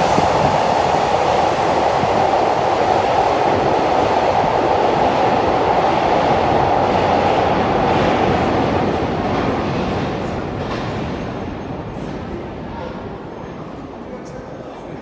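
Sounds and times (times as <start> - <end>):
train wheels rushing on rail: 0.0 - 14.7.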